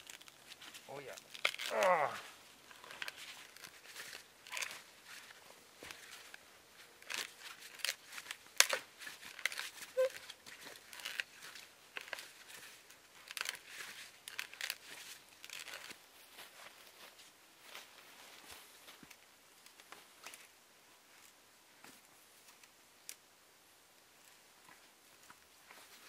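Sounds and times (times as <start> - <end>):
rustling and crinkling: 0.0 - 23.2, 24.0 - 26.0.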